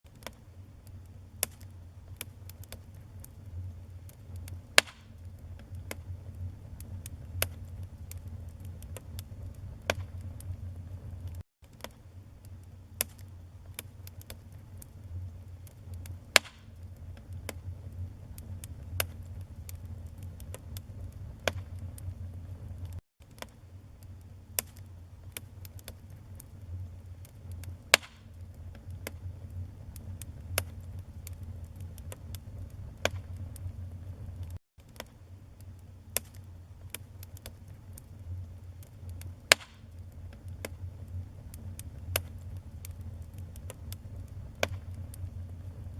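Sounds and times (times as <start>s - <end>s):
wood fire crackling and popping: 0.1s - 45.9s.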